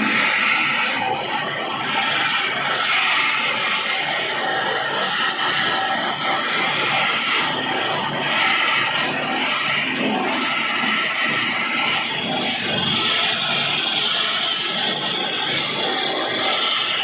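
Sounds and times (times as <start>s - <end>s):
pulley and belt whirring: 0.0s - 17.0s.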